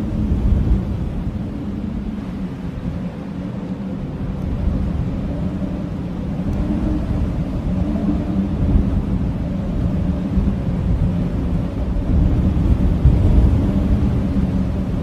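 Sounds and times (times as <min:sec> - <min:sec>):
blizzard wind rumbling: 0:00.0 - 0:15.0
wind howling: 0:00.0 - 0:15.0.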